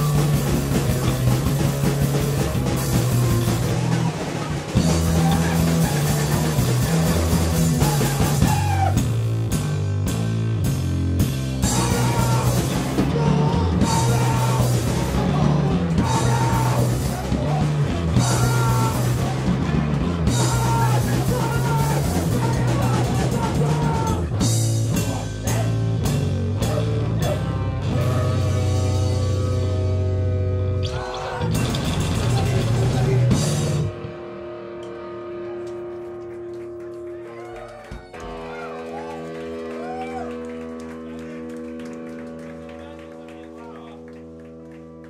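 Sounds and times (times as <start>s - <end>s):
rock band playing live: 0.0s - 43.3s.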